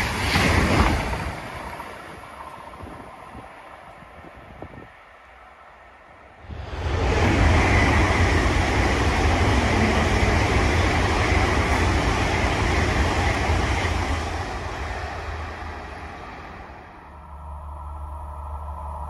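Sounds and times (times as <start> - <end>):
high-speed train passing: 0.0 - 19.0
wheels rushing on rails: 0.0 - 19.0.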